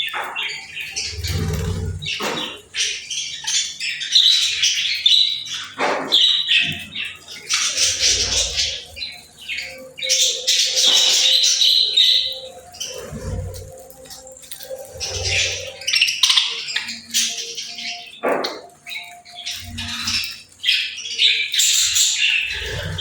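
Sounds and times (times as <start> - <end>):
budgerigars chattering and chirping: 0.0 - 23.0.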